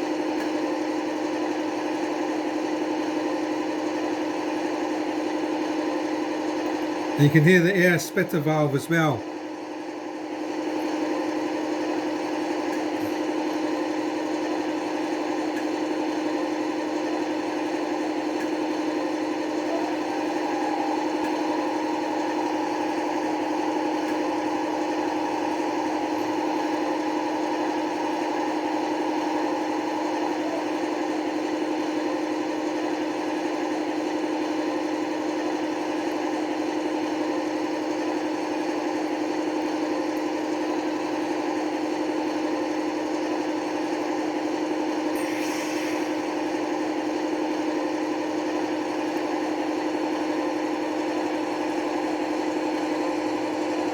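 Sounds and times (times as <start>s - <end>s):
model locomotive engine drone: 0.0s - 53.9s.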